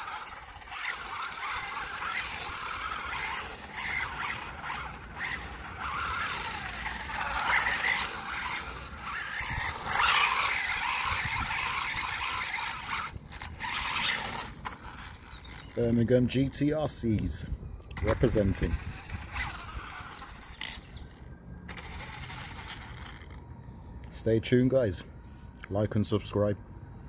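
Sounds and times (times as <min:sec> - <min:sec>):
rc car motor and drivetrain: 0:00.0 - 0:23.4.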